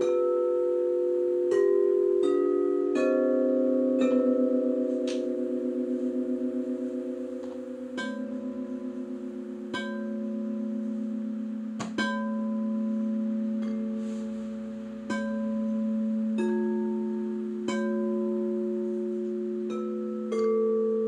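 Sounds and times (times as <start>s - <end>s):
crystal singing bowls ringing: 0.0s - 21.0s.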